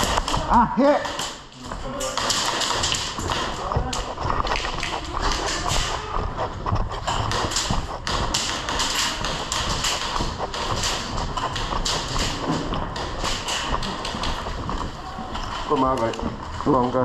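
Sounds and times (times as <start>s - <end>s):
footsteps on hard floor: 0.0s - 17.0s
gear knocking: 0.0s - 17.0s.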